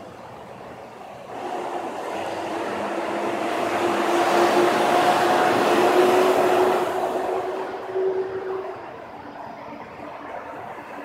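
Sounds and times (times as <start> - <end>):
steady droning tone: 0.0 - 11.0
vehicle engine approaching: 0.0 - 11.0.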